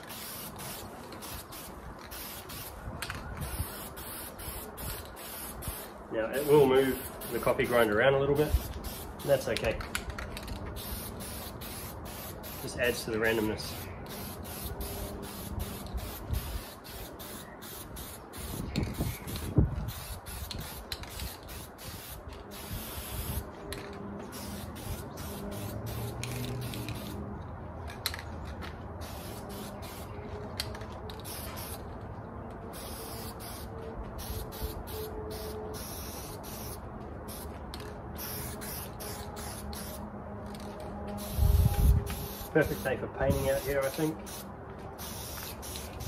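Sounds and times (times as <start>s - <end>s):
spray paint can hissing: 0.0s - 27.2s, 29.0s - 31.9s, 32.7s - 40.6s, 41.2s - 44.4s, 45.0s - 46.0s.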